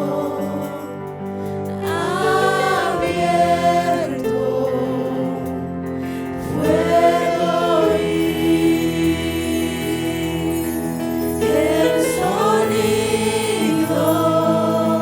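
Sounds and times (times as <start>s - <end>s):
sustained keyboard chords: 0.0s - 15.0s
voices singing: 0.0s - 15.0s.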